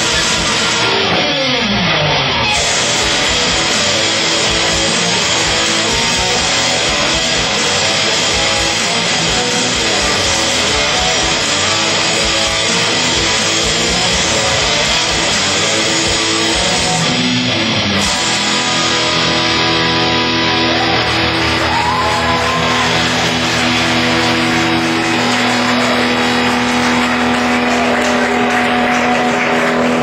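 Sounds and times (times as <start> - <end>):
heavy metal band playing live: 0.0 - 30.0.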